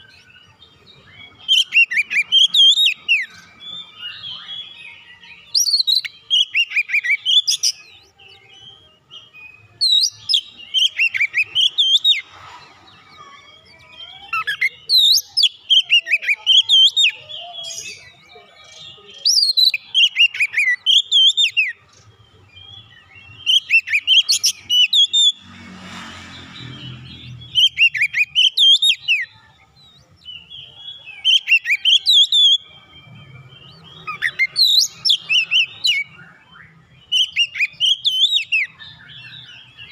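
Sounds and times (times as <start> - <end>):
bird singing whistles: 0.0 - 8.2, 9.1 - 12.3, 13.2 - 22.0, 22.6 - 25.4, 26.8 - 39.9.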